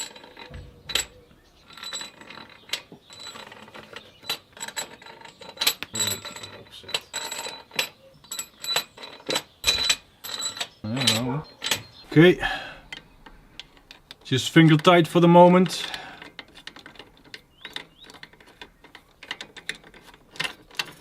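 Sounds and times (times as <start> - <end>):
metal bolts clinking: 0.0 - 21.0.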